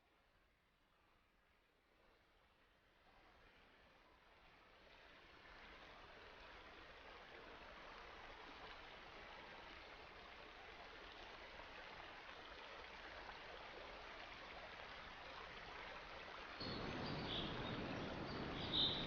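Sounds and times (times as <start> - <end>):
flowing water: 3.5 - 19.0.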